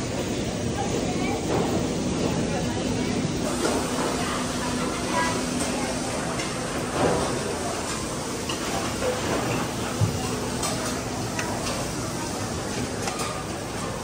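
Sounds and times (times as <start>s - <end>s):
background chatter: 0.0s - 14.0s.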